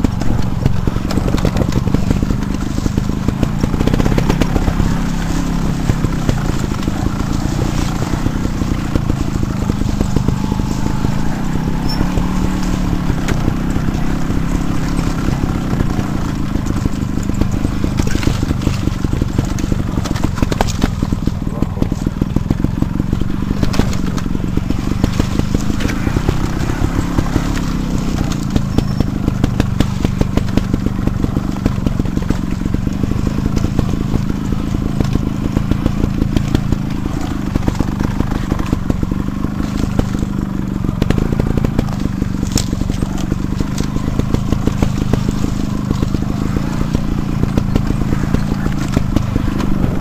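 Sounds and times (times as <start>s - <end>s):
bike rattling over rough ground: 0.0s - 50.0s
low hum: 0.0s - 50.0s.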